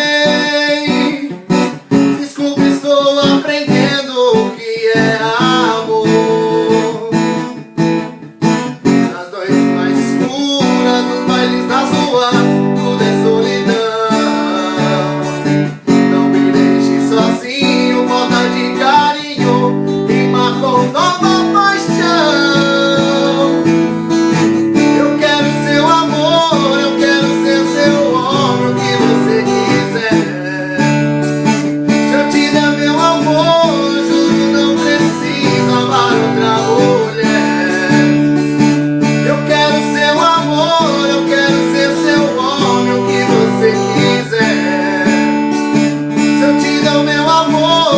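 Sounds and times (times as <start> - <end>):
acoustic guitar strumming chords: 0.0 - 47.9
man singing: 0.0 - 47.9.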